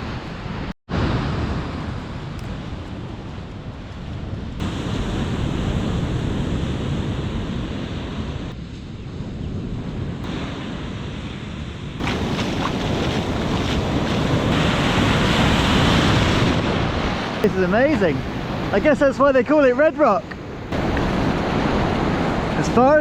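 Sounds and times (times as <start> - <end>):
wind buffeting microphone: 0.0 - 19.4, 20.1 - 23.0
ocean surf washing: 0.0 - 23.0.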